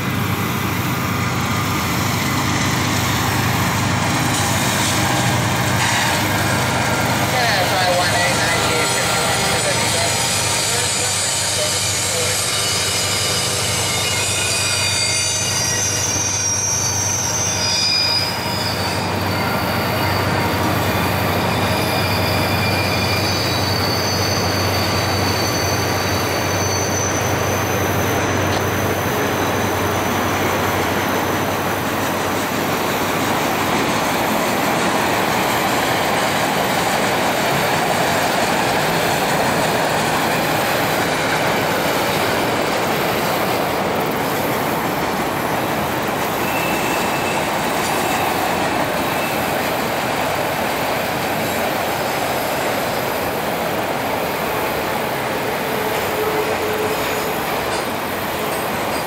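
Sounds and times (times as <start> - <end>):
freight train wheels rumbling: 0.0 - 59.0
high wheel squeals: 1.1 - 53.3, 54.2 - 59.0.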